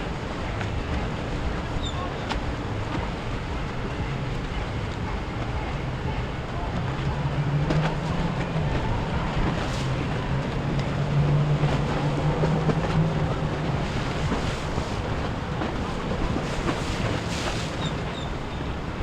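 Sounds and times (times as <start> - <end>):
motorboat engine droning: 0.0 - 19.0
wind and water wash: 0.0 - 19.0.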